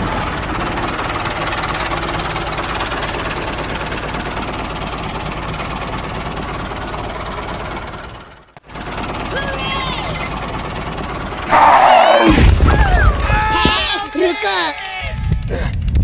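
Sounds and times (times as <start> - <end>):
small engine knocking rattle: 0.0 - 11.5, 12.8 - 16.0.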